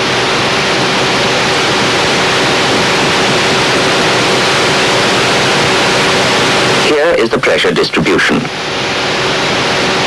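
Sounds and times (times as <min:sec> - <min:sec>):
faint hum tone: 0:00.0 - 0:10.0
film soundtrack hiss: 0:00.1 - 0:10.0.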